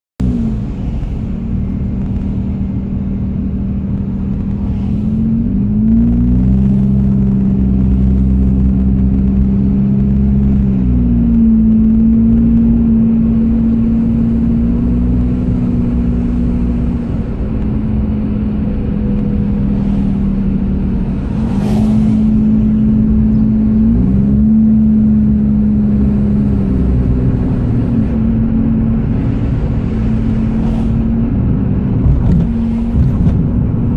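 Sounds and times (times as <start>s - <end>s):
car engine hum: 0.2s - 33.9s
road noise: 0.2s - 33.9s.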